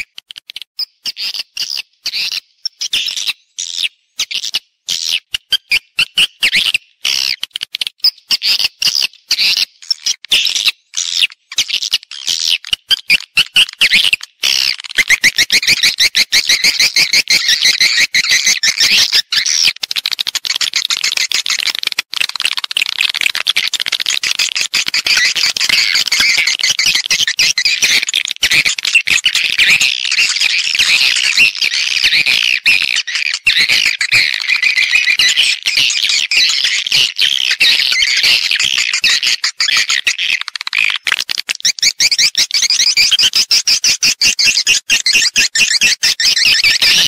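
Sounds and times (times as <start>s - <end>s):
twittering bird chirps: 0.0s - 47.0s.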